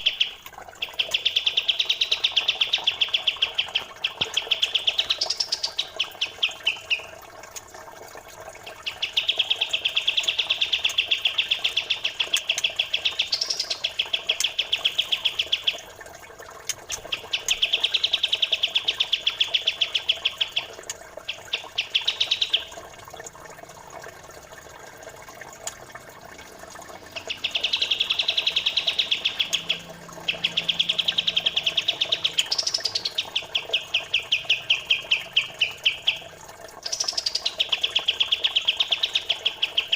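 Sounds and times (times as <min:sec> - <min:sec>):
songbird rapid chirping: 0:00.0 - 0:07.2, 0:08.7 - 0:15.9, 0:16.7 - 0:22.9, 0:26.6 - 0:39.9
faint trickle of flowing water: 0:00.0 - 0:39.9.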